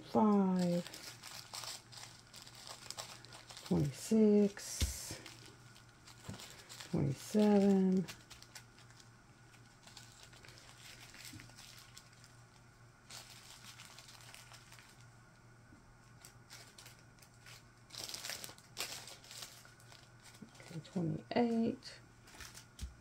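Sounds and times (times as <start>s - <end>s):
plastic bags crinkling: 0.0s - 15.1s, 16.0s - 20.9s, 22.2s - 23.0s.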